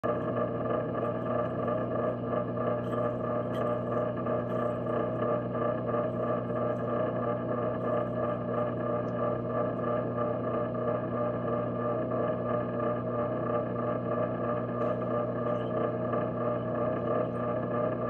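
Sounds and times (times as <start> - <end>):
underwater mechanical hum: 0.0 - 18.0.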